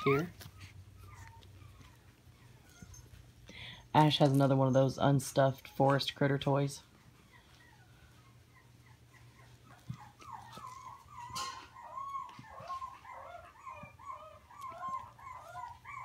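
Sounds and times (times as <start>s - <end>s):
puppy whimpering: 0.0s - 5.0s, 6.8s - 16.0s.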